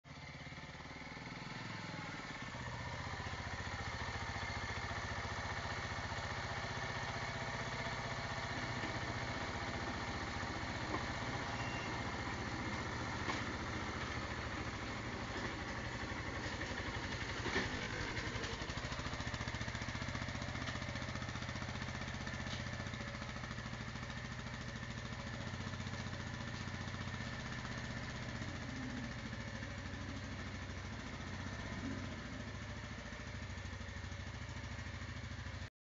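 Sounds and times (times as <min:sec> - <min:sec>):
motorcycle engine idling: 0:00.1 - 0:35.7.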